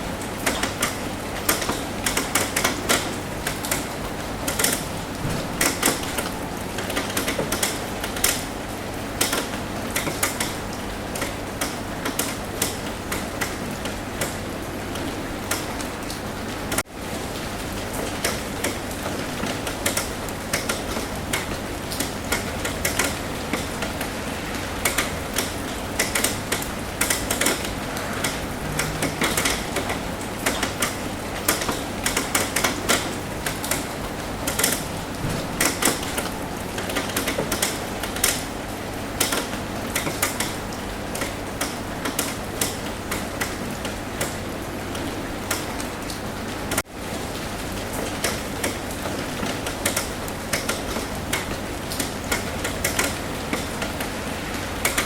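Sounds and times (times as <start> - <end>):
raindrops tapping on a roof: 0.0 - 55.0.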